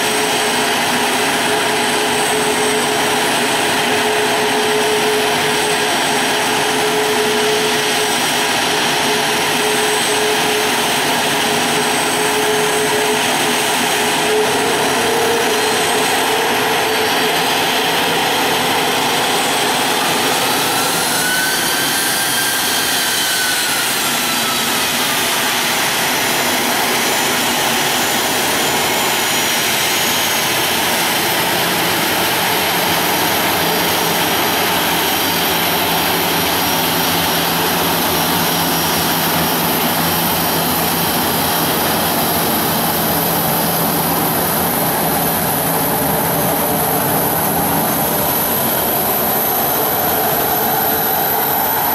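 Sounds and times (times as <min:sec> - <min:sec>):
jet engines roaring: 0:00.0 - 0:51.9.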